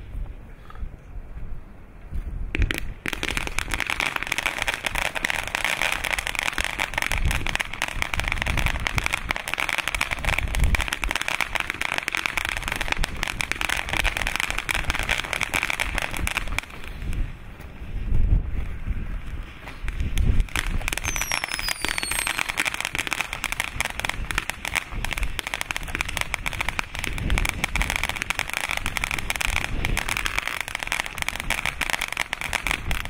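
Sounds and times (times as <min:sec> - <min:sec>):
firework fountain crackling hiss: 0:02.6 - 0:33.0.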